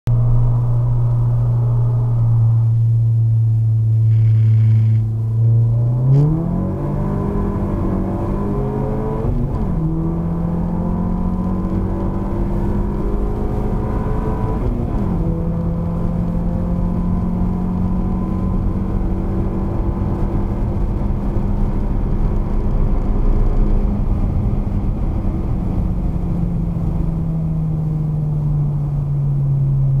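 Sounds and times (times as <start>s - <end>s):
car engine revving at full throttle: 3.9s - 30.0s.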